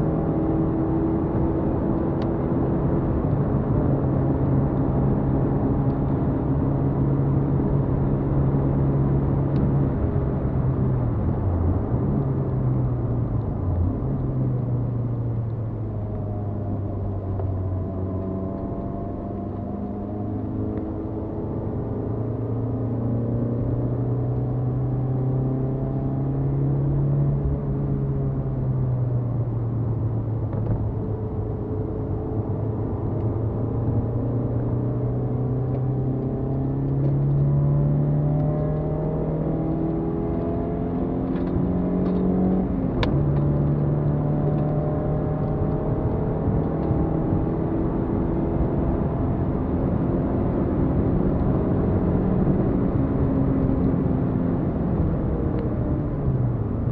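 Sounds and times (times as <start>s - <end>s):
car engine accelerating hard: 0.0s - 56.9s.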